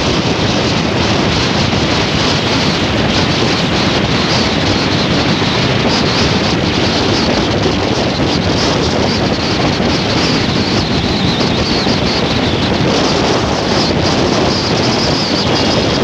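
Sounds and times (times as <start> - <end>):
road and vehicle noise: 0.0 - 16.0
wind on microphone: 0.0 - 16.0.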